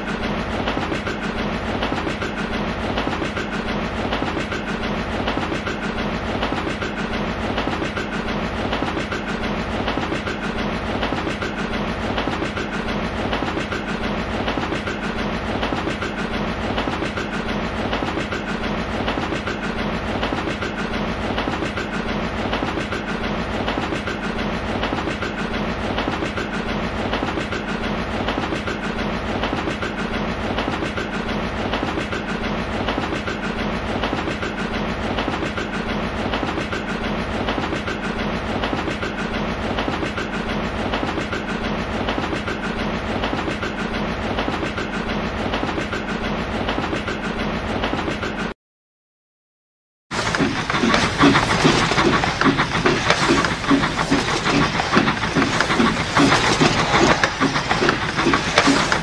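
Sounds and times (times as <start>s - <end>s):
steam engine chuffing: 0.0s - 48.6s, 50.1s - 59.0s.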